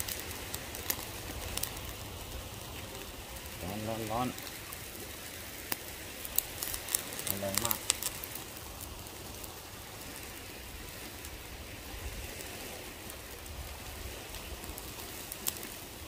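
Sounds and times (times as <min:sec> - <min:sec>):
steak sizzling over fire: 0:00.0 - 0:16.0.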